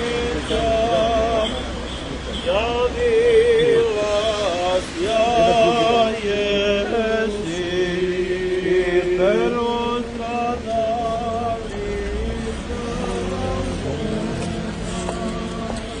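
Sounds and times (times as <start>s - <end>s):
voices chanting a hymn: 0.0s - 16.0s.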